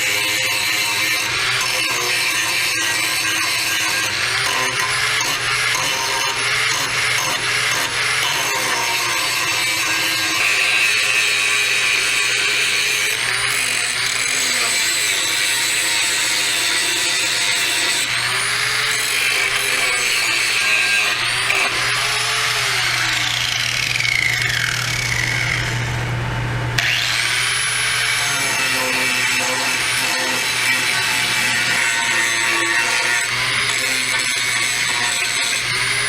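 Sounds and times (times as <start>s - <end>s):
angle grinder grinding metal: 0.0s - 26.2s, 26.8s - 36.0s.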